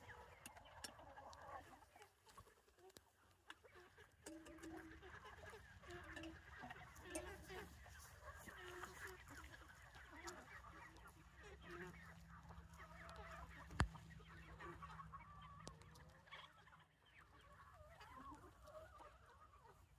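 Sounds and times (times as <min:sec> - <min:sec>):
hens clucking: 0:00.0 - 0:19.9.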